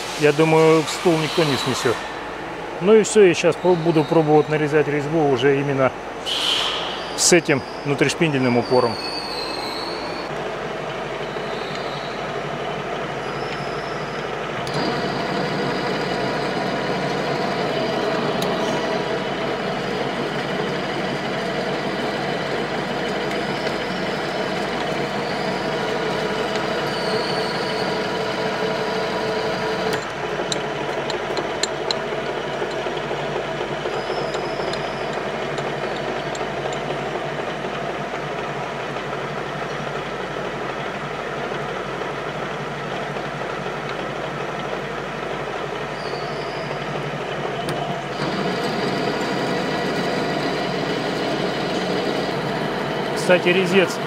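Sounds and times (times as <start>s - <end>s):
metal lathe whining: 0.0s - 5.0s, 7.0s - 54.0s.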